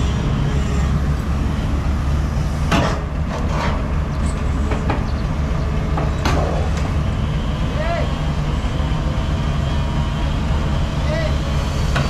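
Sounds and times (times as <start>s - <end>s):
diesel engine low drone: 0.0s - 12.0s.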